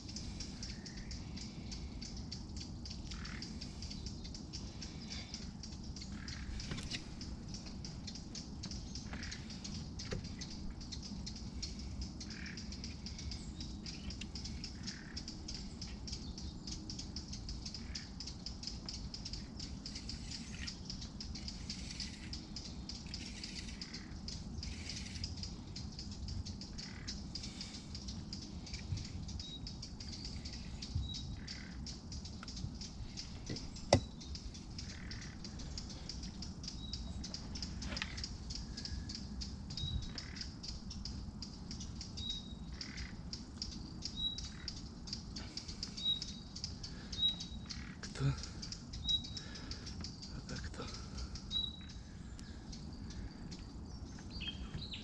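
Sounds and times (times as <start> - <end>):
birds chirping: 0.0 - 55.0
low background rumble: 0.0 - 55.0.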